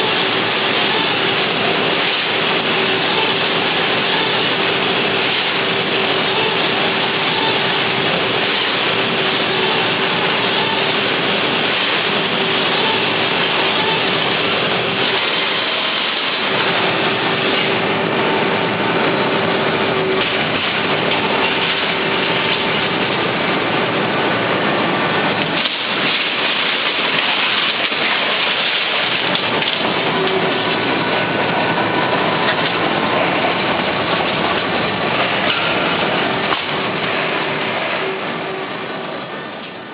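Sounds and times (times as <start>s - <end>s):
machine crackling rush: 0.0s - 39.9s
machine whines: 0.0s - 39.9s.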